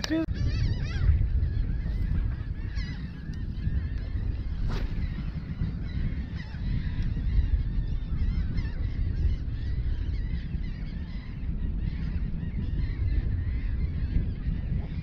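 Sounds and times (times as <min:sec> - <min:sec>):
birds chirping: 0:00.0 - 0:15.0
wind buffeting microphone: 0:00.0 - 0:15.0.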